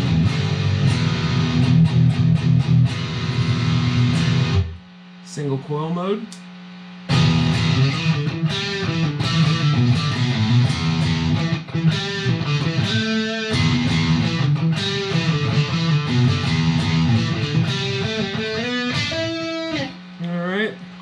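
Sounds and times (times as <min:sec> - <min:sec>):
distorted electric guitar: 0:00.0 - 0:05.2, 0:06.9 - 0:21.0.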